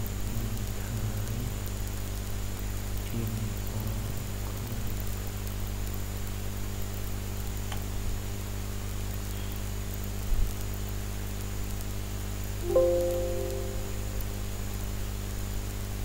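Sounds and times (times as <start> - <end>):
mains hum and hiss: 0.0 - 16.0.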